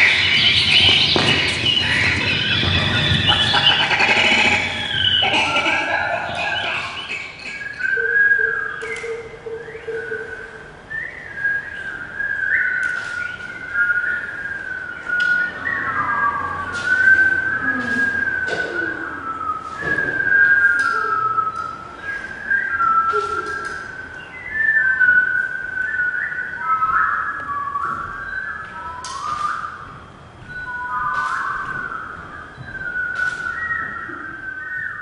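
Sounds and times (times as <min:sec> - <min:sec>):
person whistling like birds: 0:00.0 - 0:35.0.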